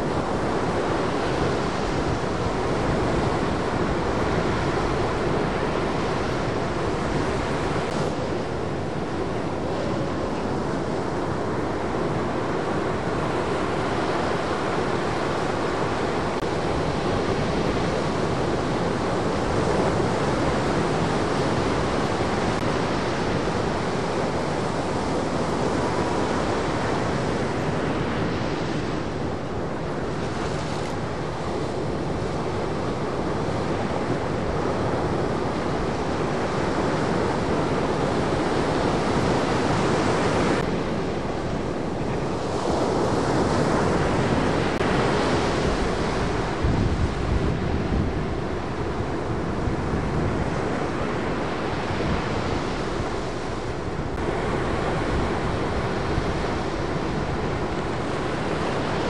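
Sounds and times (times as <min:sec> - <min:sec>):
ocean waves breaking: 0:00.0 - 0:59.0
wind buffeting microphone: 0:00.0 - 0:59.0.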